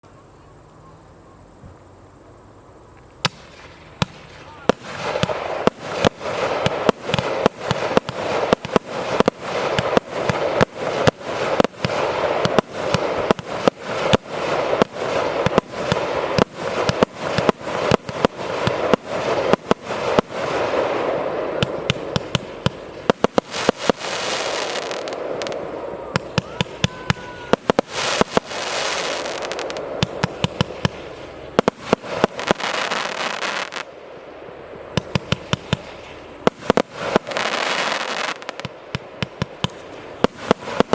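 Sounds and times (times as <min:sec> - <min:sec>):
crackling hissing firework bursts: 0:00.0 - 0:40.9
fireworks bangs: 0:03.2 - 0:34.0, 0:34.9 - 0:40.9.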